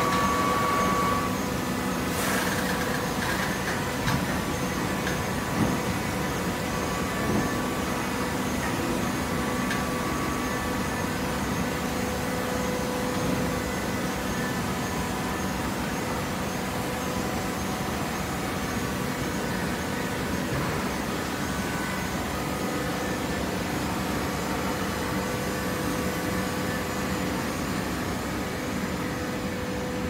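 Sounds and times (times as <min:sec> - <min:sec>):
baler machine hum and hiss: 0:00.0 - 0:30.0.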